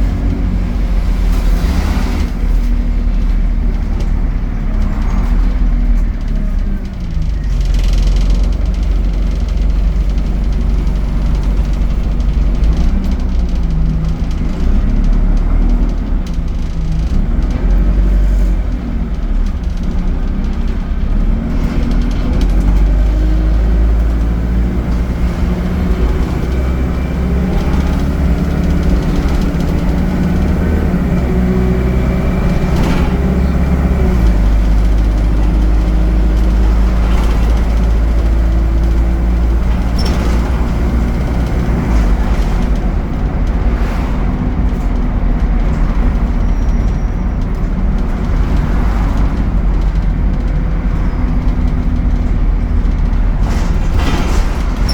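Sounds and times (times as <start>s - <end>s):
bus engine running: 0.0s - 54.9s
knocks and rattles: 0.0s - 54.9s.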